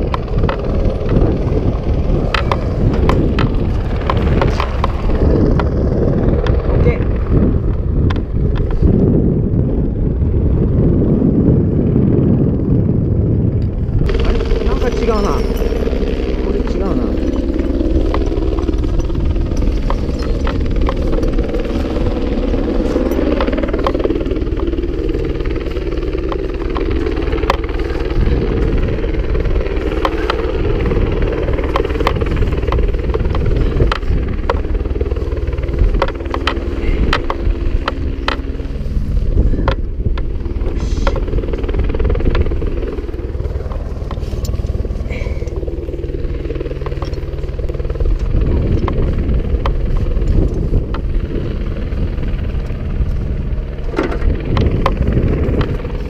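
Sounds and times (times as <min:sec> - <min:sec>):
helicopter turbine and rotor hum: 0:00.0 - 0:56.0.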